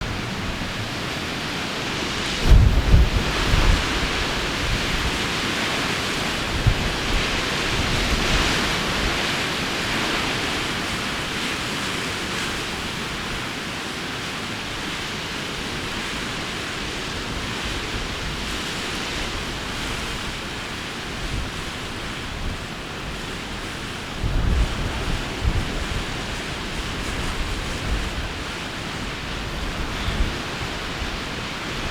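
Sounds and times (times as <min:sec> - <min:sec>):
strong wind blowing: 0:00.0 - 0:13.6, 0:14.6 - 0:31.9
wind buffeting microphone: 0:00.0 - 0:13.7, 0:14.5 - 0:31.9.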